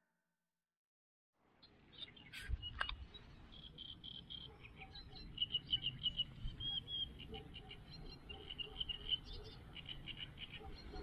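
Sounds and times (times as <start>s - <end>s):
small bird chirping: 1.6s - 11.0s.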